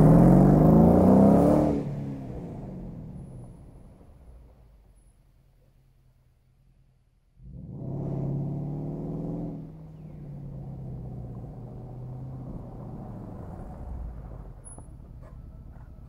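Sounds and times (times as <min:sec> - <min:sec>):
suv engine accelerating: 0:00.0 - 0:04.8, 0:07.4 - 0:16.0.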